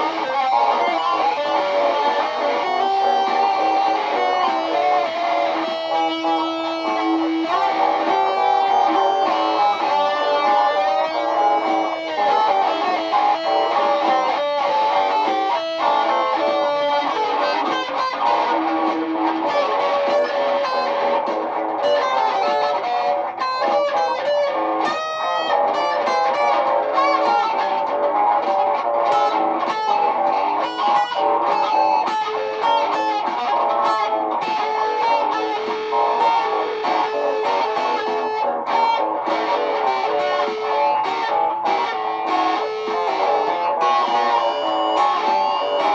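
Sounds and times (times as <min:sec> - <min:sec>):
layered electric guitar loops: 0:00.0 - 0:45.9.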